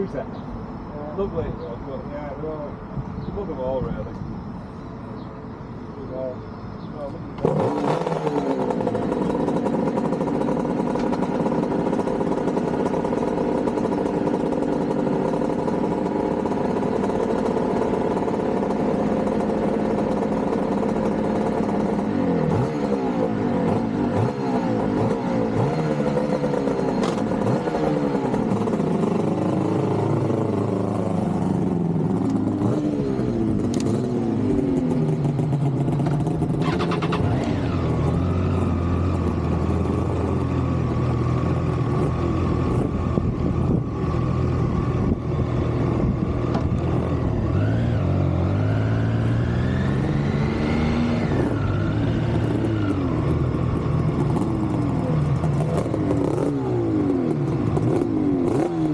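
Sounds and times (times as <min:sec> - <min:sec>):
two-stroke motorcycle engine revving: 0:07.2 - 0:58.9.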